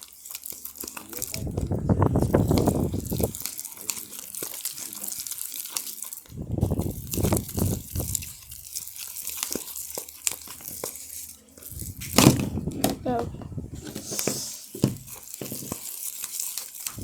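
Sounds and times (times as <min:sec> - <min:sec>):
clicks and crinkles: 0:00.0 - 0:17.0
slime squelching in plastic container: 0:00.0 - 0:17.0.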